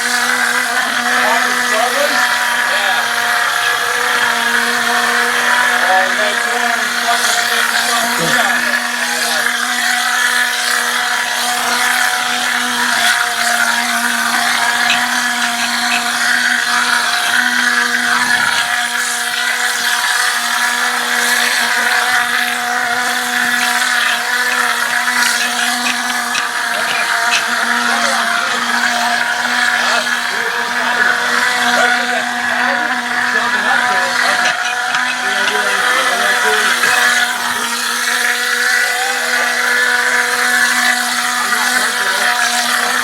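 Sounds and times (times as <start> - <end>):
busy mechanical noise: 0.0 - 43.0
motor humming: 0.0 - 43.0.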